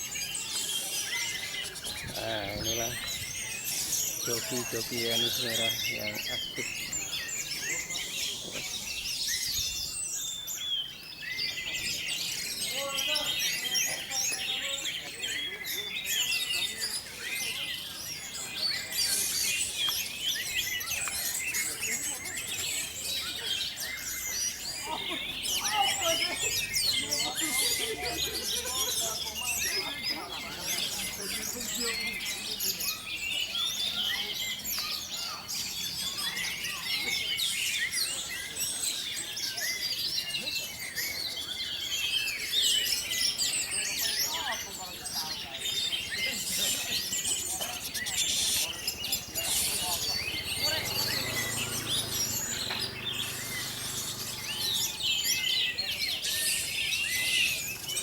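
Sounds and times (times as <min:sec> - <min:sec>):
caged birds singing and chirping: 0:00.0 - 0:58.0.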